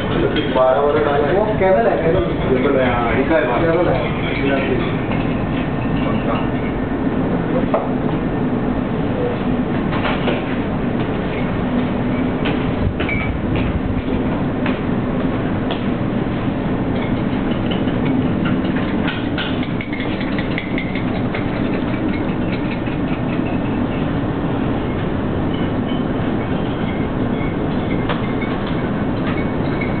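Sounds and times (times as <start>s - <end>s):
ship engines droning: 0.0s - 30.0s.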